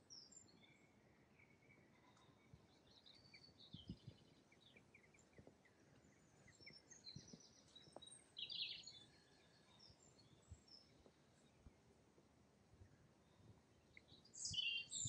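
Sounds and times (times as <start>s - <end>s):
small birds chirping and trilling: 0.0s - 11.7s, 12.9s - 15.0s.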